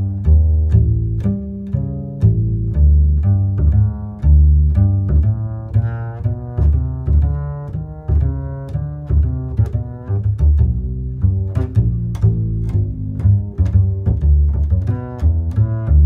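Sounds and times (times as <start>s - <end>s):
low pitched music notes: 0.0s - 16.0s.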